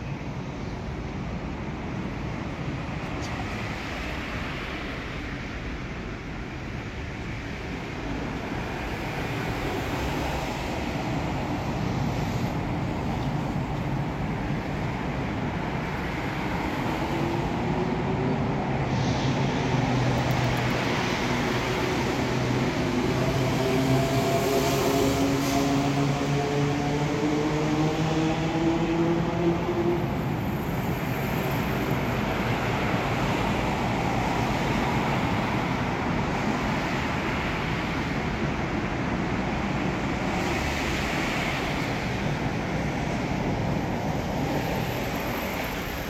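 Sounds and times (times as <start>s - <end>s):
electric train rumbling: 0.0s - 46.0s.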